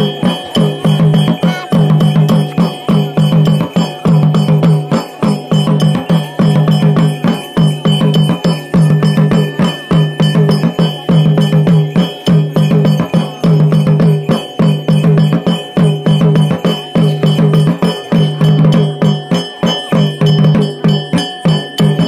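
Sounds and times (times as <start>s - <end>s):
fast rhythmic drumming: 0.0s - 22.0s.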